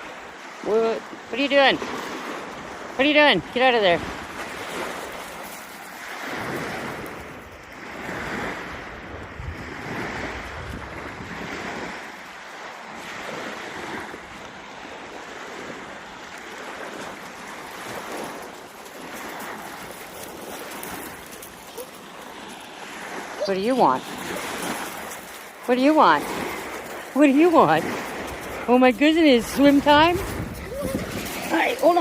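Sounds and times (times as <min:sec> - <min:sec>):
ocean surf breaking: 0:00.0 - 0:09.0, 0:09.6 - 0:32.0
wind rumbling on microphone: 0:03.9 - 0:32.0.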